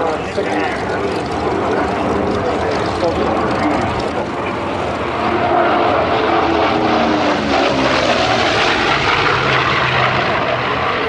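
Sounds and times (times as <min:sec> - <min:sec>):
propeller aircraft engine flying past: 0:00.0 - 0:11.0.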